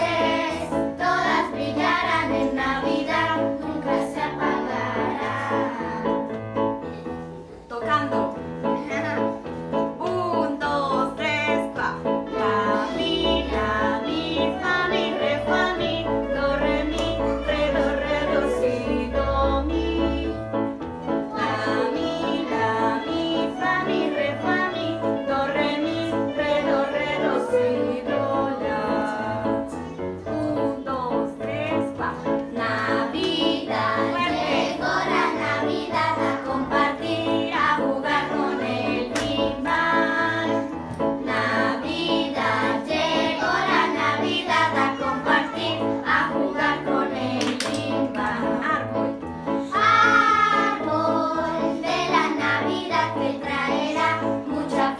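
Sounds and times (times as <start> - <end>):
children singing: 0.0 - 6.3, 12.3 - 20.5, 21.2 - 31.0, 32.4 - 48.6, 49.6 - 54.9.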